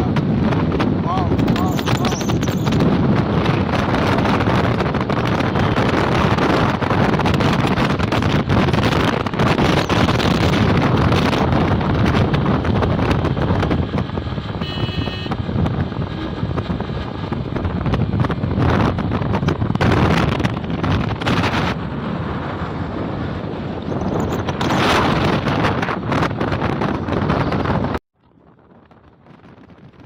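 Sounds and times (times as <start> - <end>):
wind buffeting microphone: 0.0 - 30.0
motorcycle engine and tyres droning: 1.6 - 30.0.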